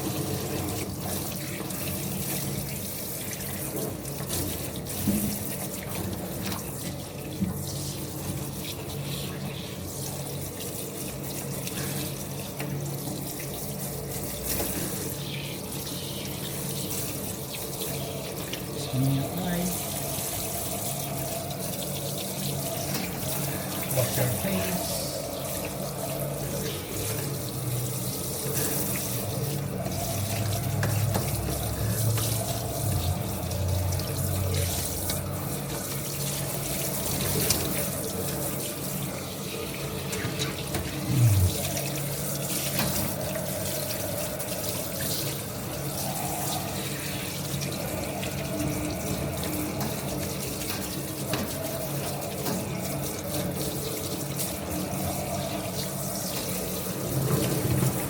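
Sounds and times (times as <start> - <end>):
tap water running: 0.0 - 58.0.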